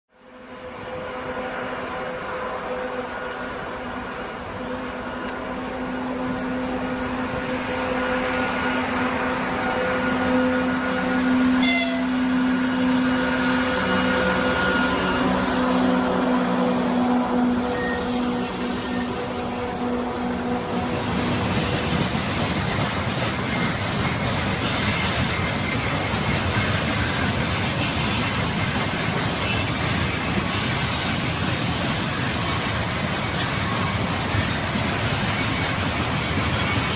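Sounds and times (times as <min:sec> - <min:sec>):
diesel locomotive engine rumble: 0:00.2 - 0:36.9
train wheels running on rails: 0:00.2 - 0:36.9.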